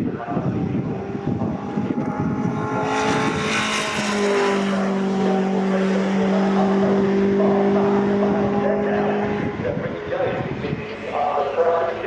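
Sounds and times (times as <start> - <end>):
truck engines passing at speed: 0.1 - 12.0.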